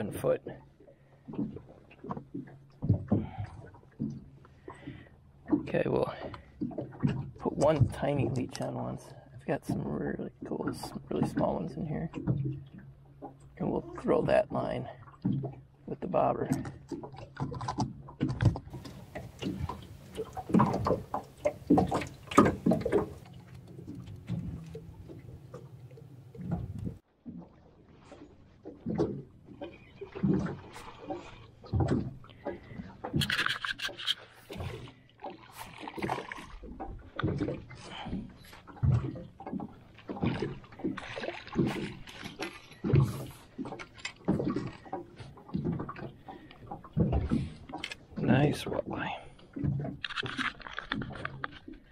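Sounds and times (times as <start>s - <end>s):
waves slapping boat hull: 0.0s - 51.9s.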